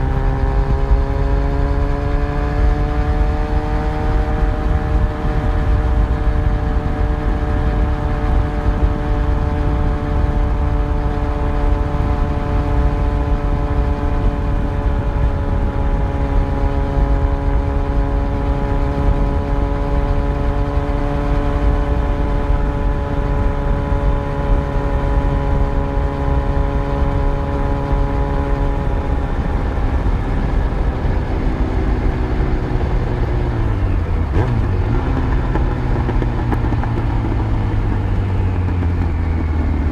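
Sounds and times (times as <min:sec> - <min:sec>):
motorcycle engine running: 0:00.0 - 0:39.9
riding wind noise: 0:00.0 - 0:39.9.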